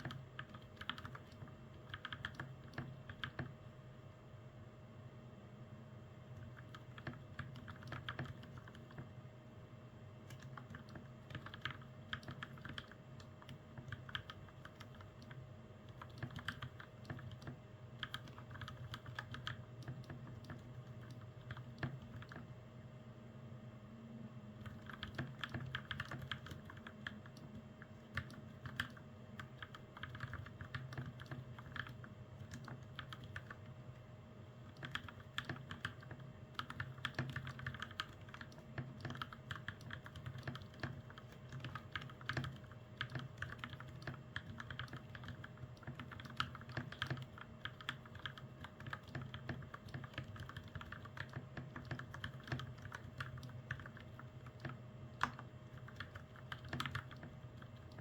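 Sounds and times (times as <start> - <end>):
mechanical keyboard typing: 0.0 - 3.6, 6.4 - 9.1, 10.3 - 22.5, 24.6 - 33.7, 34.6 - 58.0
faint steady hum: 0.0 - 58.0.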